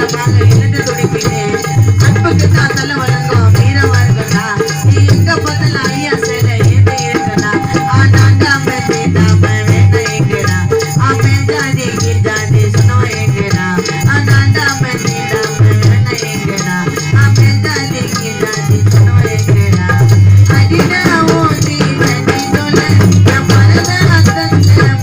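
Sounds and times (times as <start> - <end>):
heavy low drum beat: 0.0 - 25.0.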